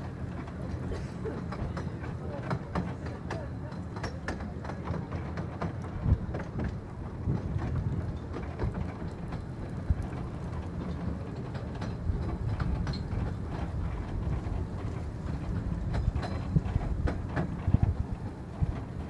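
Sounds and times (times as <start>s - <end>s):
railway coach rumbling: 0.0s - 19.0s
wheels clicking over rail joints: 0.0s - 19.0s.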